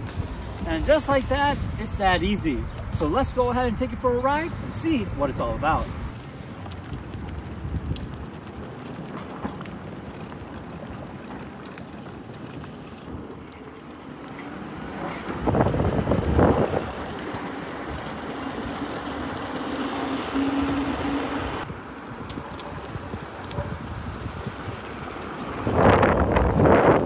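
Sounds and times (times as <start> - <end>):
tyre and wind noise: 0.0 - 27.0.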